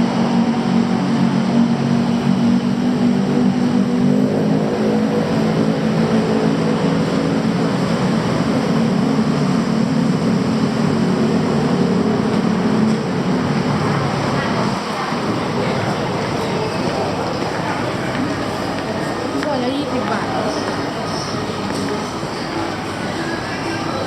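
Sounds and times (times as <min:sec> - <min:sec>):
idling engine drone: 0:00.0 - 0:19.4
street traffic: 0:00.0 - 0:24.0.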